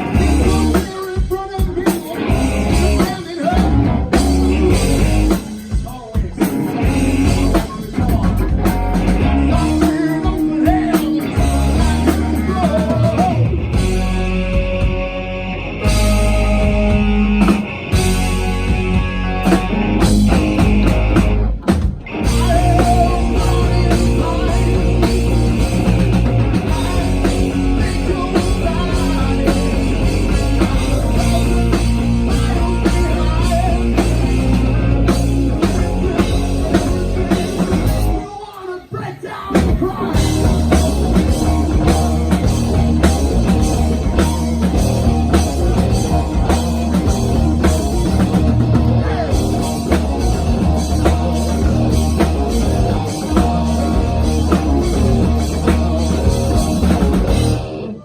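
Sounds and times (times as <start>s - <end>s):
person singing: 0.0s - 17.5s, 22.2s - 44.7s, 48.7s - 58.0s
rock band playing live: 0.0s - 58.0s.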